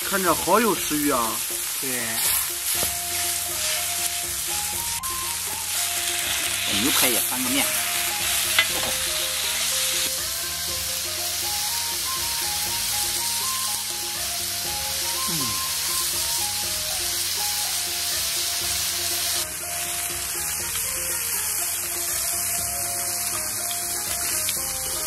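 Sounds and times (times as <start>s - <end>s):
background music stepping melody: 0.0s - 25.0s
meat sizzling on a griddle: 0.0s - 25.0s.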